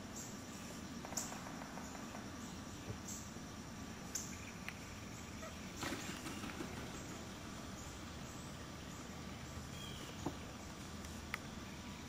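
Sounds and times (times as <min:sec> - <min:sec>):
low background hiss: 0:00.0 - 0:12.0.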